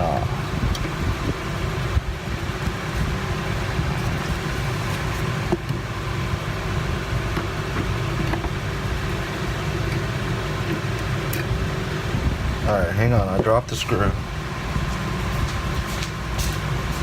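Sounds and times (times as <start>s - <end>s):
low fan hum: 0.0s - 17.0s.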